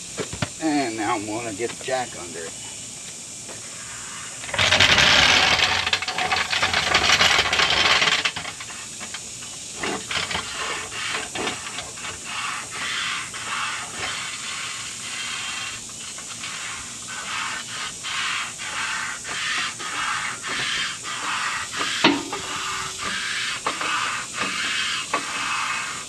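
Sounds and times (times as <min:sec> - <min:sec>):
floor jack wheels rattling on pavement: 0:04.1 - 0:26.0.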